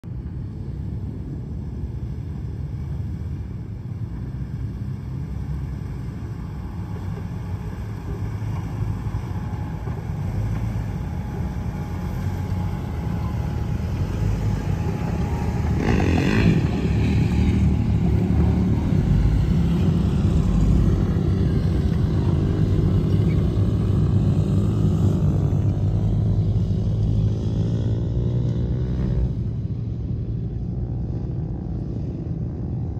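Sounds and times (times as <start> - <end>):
truck engine rumbling: 0.0 - 32.9.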